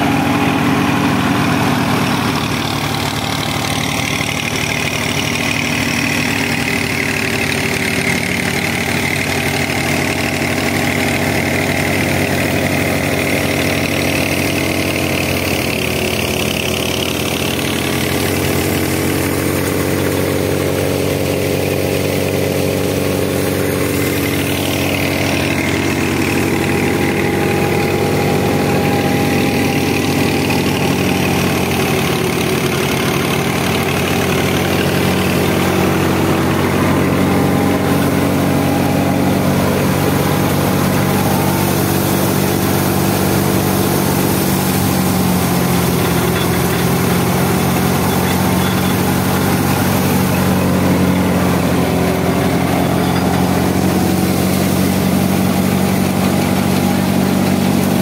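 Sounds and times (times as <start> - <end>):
tractor engine hum: 0.0 - 58.0.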